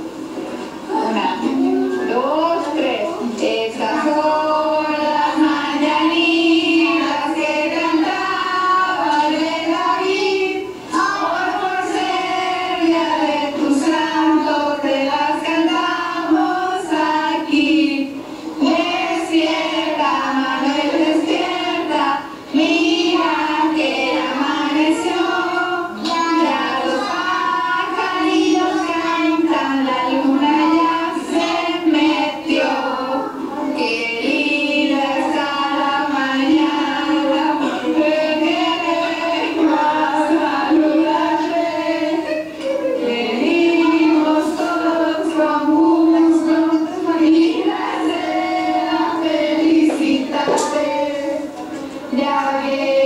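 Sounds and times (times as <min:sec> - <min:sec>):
group singing with children: 0:00.0 - 0:53.0.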